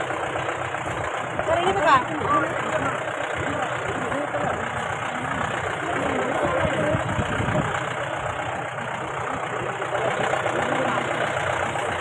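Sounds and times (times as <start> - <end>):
car engine rumbling off-road: 0.0 - 12.0.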